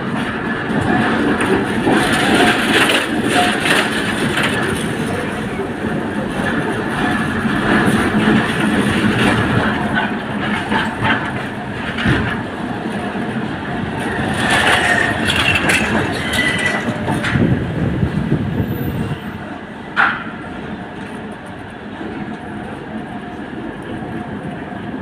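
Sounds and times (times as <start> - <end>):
tram wheels rumbling over rails: 0.0 - 25.0.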